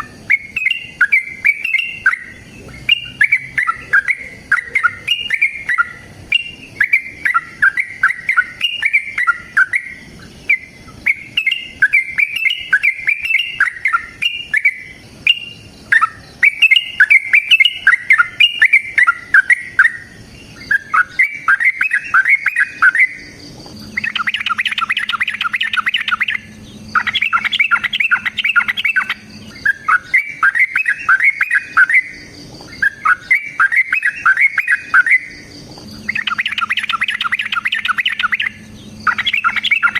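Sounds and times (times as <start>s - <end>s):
bird singing bubbly chattering phrases: 0.0s - 39.9s.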